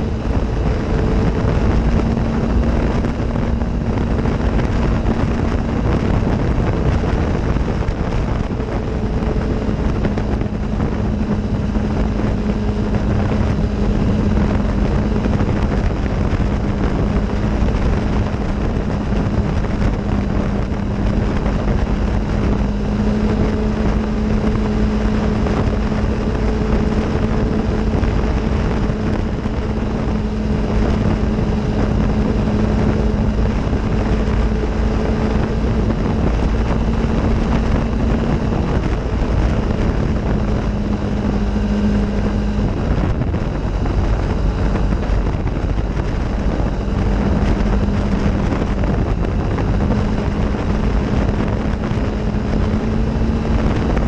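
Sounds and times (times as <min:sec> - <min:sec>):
off-road vehicle engine running: 0:00.0 - 0:54.0
wind on microphone: 0:00.0 - 0:54.0.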